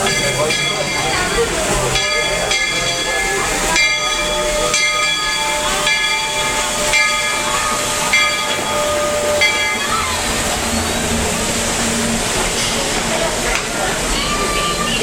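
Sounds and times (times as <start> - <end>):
locomotive bell ringing: 0.0 - 15.0
steam hissing: 0.0 - 15.0.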